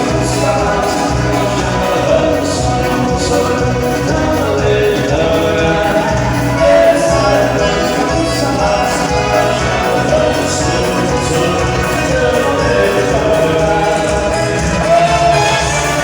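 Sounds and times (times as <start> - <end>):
band music with singing: 0.0 - 16.0.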